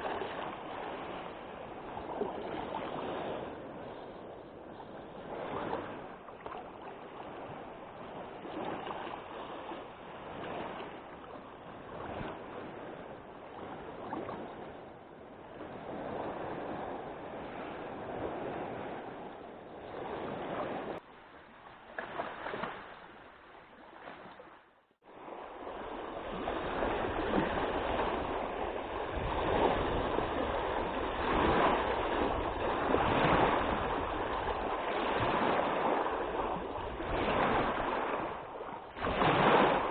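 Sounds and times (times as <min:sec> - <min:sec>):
choppy lake water splashing: 0:00.0 - 0:39.9
wind: 0:00.0 - 0:39.9.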